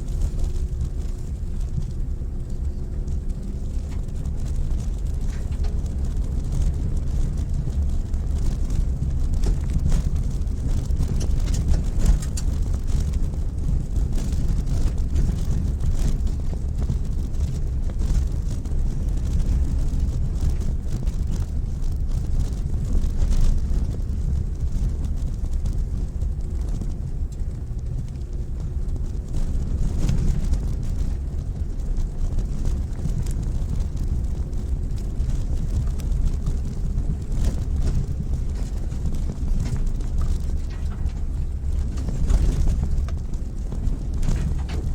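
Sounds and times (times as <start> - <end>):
engine and tyres rumbling: 0.0 - 44.9
gravel ticking: 0.0 - 44.9.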